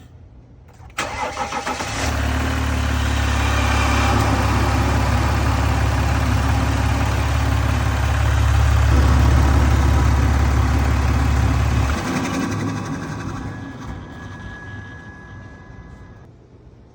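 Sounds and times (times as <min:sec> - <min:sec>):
diesel engine drone: 0:00.9 - 0:16.3.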